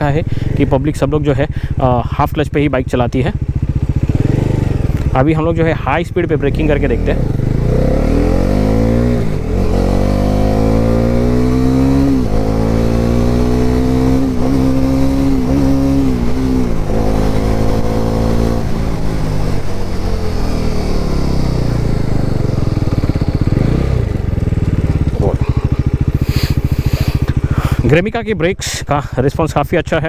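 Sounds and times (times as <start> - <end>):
motorcycle engine accelerating: 0.0 - 28.6.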